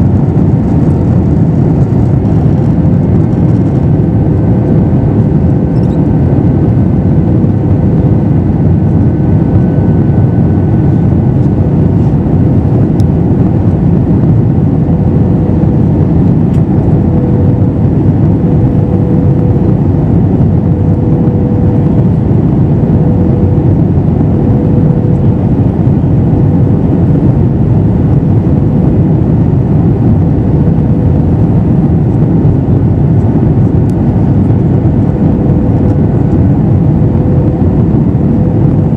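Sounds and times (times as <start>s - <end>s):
airplane cabin engine roar: 0.0s - 38.9s
faint steady hum: 0.0s - 38.9s.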